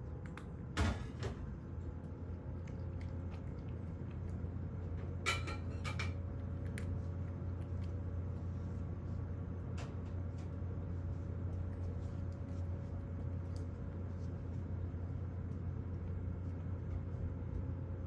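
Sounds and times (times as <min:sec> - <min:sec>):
cat crunching dry kibble: 0:00.0 - 0:00.8, 0:01.4 - 0:18.0
low hum: 0:00.0 - 0:18.0.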